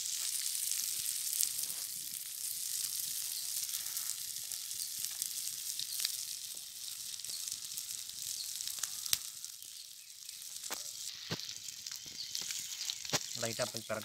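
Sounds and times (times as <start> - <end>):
eggs sizzling in hot oil: 0.0 - 14.0.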